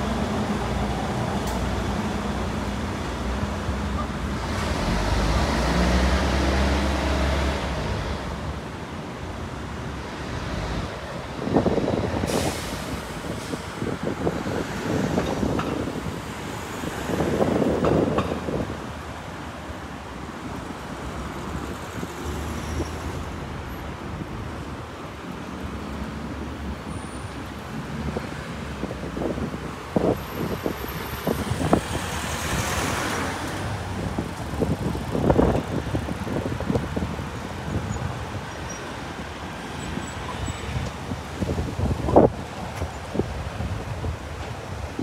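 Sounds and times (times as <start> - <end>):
road traffic: 0.0 - 45.0.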